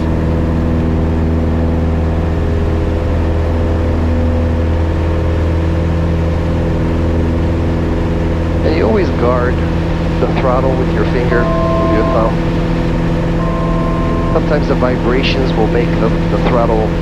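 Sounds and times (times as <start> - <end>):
airplane engine and propeller: 0.0 - 17.0.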